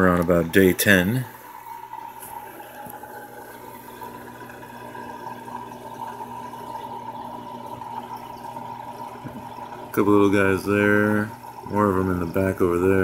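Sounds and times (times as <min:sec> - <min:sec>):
water bubbling and trickling: 0:00.0 - 0:13.0.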